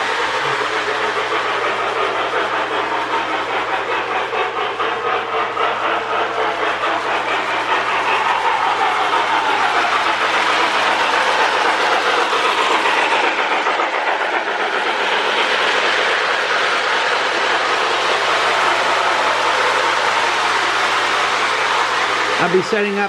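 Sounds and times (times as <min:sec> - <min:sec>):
steam chuffing sound effect: 0:00.0 - 0:23.0
toy train motor and wheels: 0:00.0 - 0:23.0.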